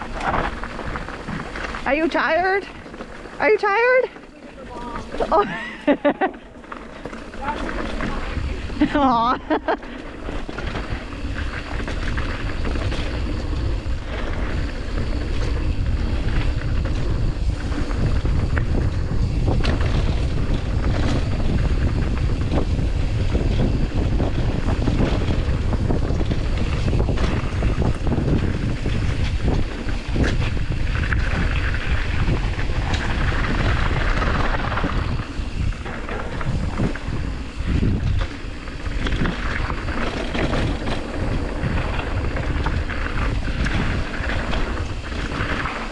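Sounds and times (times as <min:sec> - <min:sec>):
mountain bike rumbling on dirt: 0:00.0 - 0:45.9
wind buffeting microphone: 0:00.0 - 0:45.9.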